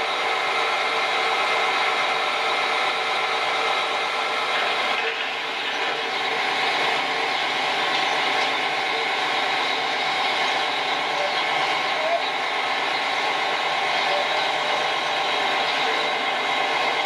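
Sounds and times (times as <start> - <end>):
crane diesel engine running: 0.0 - 17.0
faint mechanical whines: 0.0 - 17.0.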